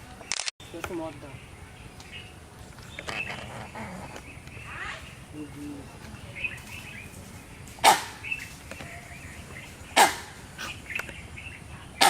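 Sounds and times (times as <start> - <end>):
langur bark-like calls: 0.7 - 12.0.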